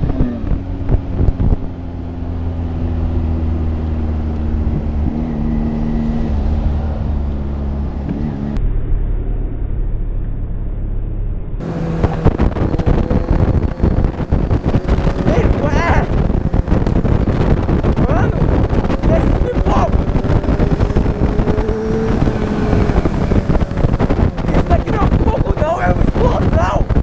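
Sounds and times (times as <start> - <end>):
wind rush on microphone: 0.0 - 8.6, 11.6 - 27.0
motorcycle engine cruising: 0.0 - 27.0.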